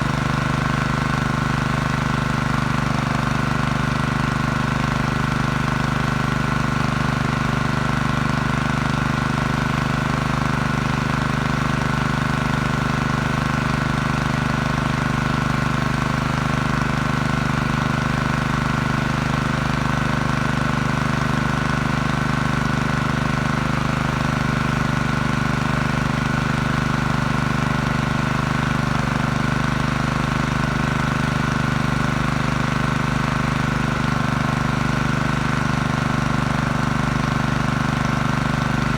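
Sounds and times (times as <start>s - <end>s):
generator engine running: 0.0s - 38.9s.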